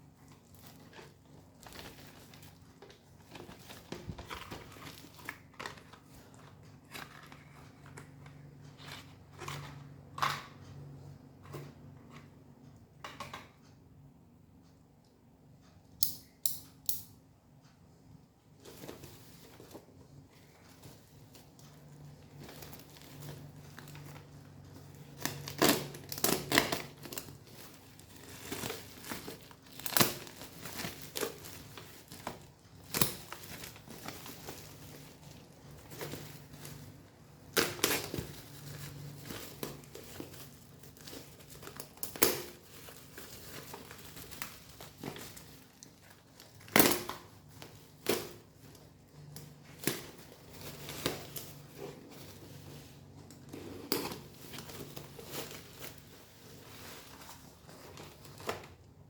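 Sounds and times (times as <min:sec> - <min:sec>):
packaging crinkling and rustling: 0:00.0 - 0:10.3, 0:18.6 - 0:59.0.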